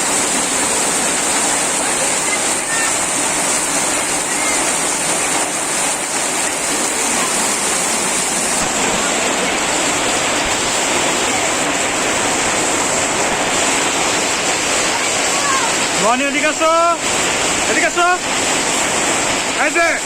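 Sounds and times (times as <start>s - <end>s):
torrential rain pouring: 0.0s - 20.0s.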